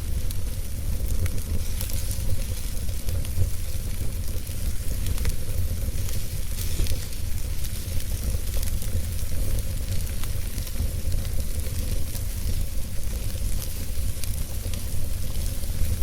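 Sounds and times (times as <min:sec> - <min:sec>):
burning wood crackling and popping: 0:00.0 - 0:16.0
fire hissing and rumbling: 0:00.0 - 0:16.0.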